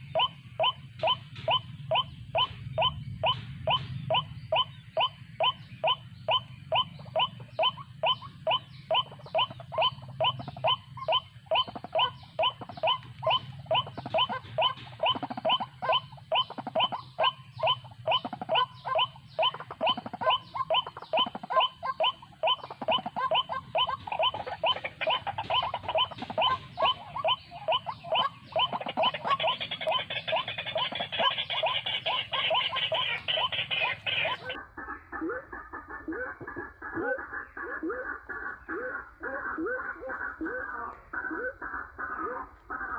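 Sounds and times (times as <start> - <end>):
waterhen calling: 0.0 - 34.6.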